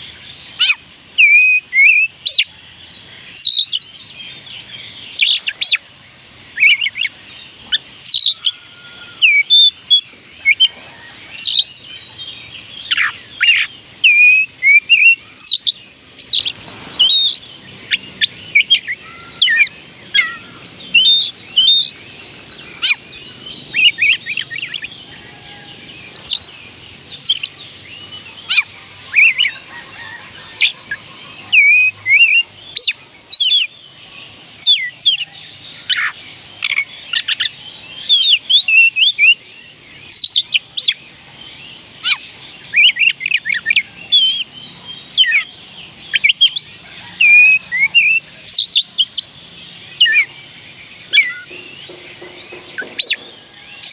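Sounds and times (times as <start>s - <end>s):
bird singing whistled notes: 0.0s - 53.9s.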